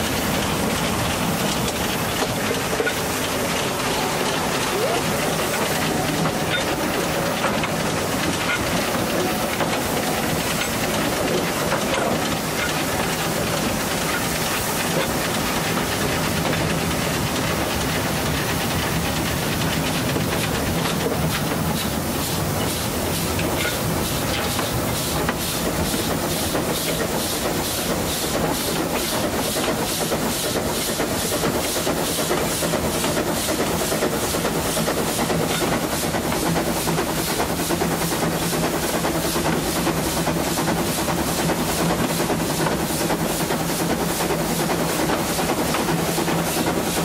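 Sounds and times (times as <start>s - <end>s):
regular locomotive beat: 0.0s - 47.0s
steam train running: 0.0s - 47.0s.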